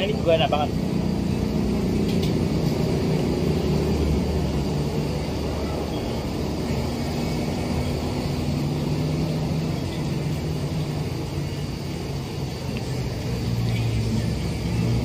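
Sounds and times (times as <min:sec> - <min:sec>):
road traffic engines humming: 0:00.0 - 0:15.0.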